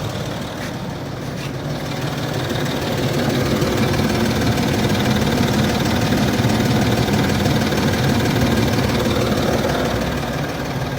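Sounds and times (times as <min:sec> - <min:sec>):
diesel engine idling with knock: 0:00.0 - 0:10.9.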